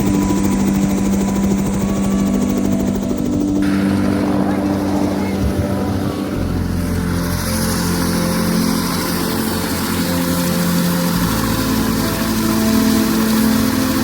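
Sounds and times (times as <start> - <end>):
helicopter turbine and rotor: 0.0 - 14.0.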